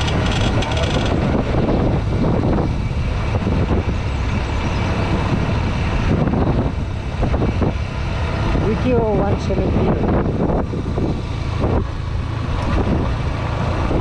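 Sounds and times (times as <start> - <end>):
motorcycle engine rumble: 0.0 - 14.0
road noise: 0.0 - 14.0.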